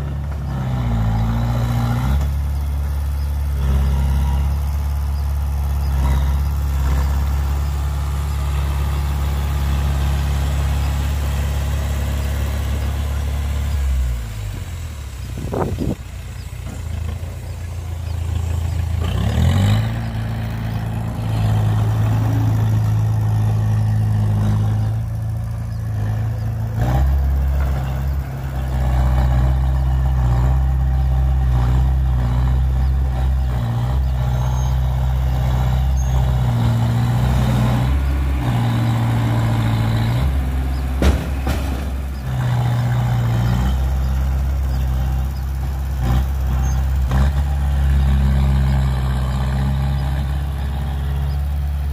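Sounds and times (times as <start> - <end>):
diesel engines running: 0.0 - 51.9.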